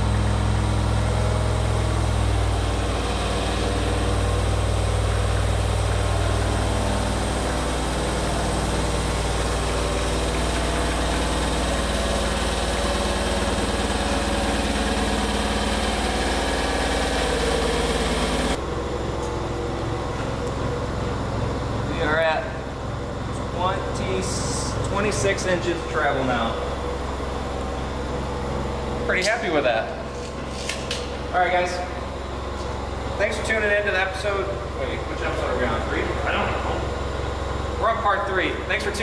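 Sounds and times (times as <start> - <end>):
forklift engine running: 0.0 - 39.0.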